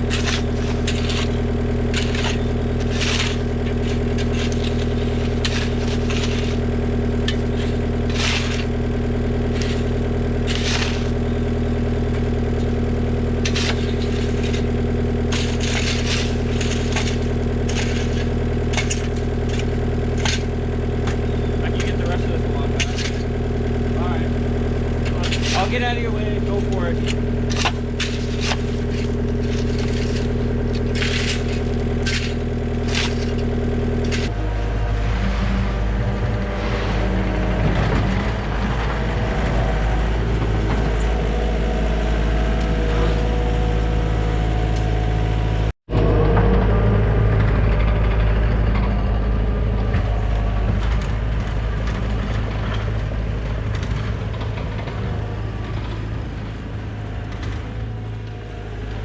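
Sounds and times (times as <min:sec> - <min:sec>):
sharp clanks and scraping: 0:00.0 - 0:39.7, 0:40.3 - 0:45.2, 0:45.9 - 0:56.6
diesel machinery running: 0:00.0 - 0:59.0.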